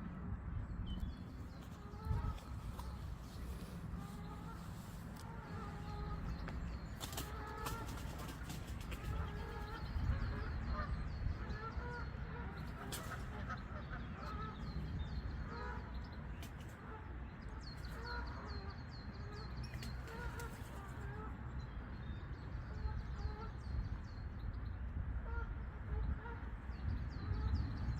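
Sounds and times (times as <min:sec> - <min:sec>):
low steady rumble: 0:00.0 - 0:27.9.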